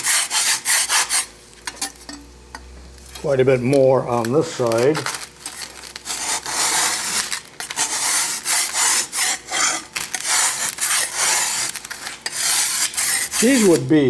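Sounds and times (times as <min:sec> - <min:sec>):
brass scraper rasping rust off steel: 0:00.0 - 0:02.2, 0:04.2 - 0:13.9.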